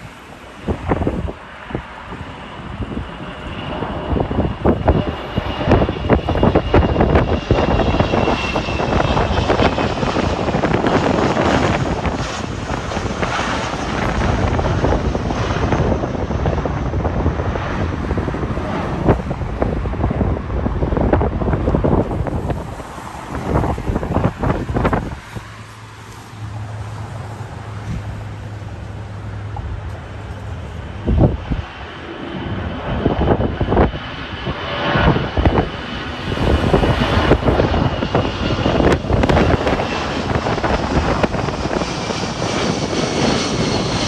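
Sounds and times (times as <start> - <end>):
jet engines roaring with whine: 0.0 - 44.0
wind buffeting microphone: 0.0 - 44.0.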